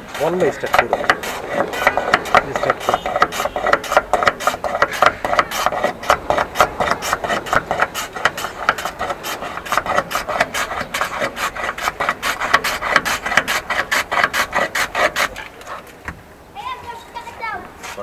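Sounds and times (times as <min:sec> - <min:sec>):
ice scraping on wooden board: 0:00.0 - 0:16.0, 0:16.8 - 0:18.0.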